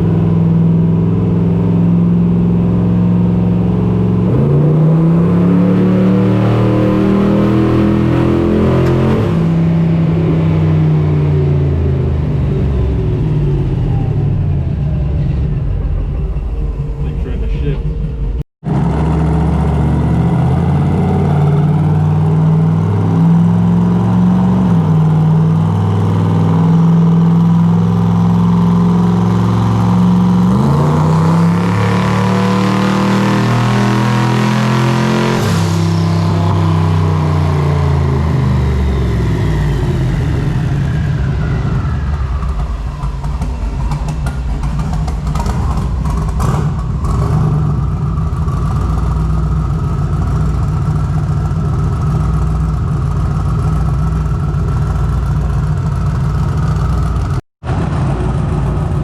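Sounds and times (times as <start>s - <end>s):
engine running on a dyno: 0.0s - 59.0s.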